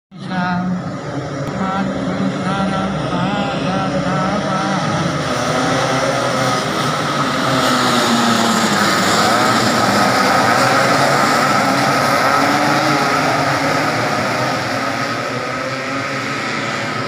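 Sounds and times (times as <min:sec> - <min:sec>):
scooter engines at high revs: 0:00.3 - 0:17.0.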